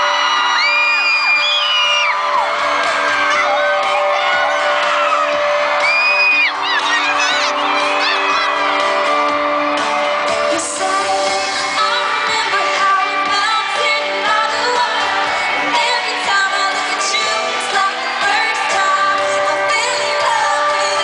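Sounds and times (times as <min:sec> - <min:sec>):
live band playing pop song: 0:00.0 - 0:21.0.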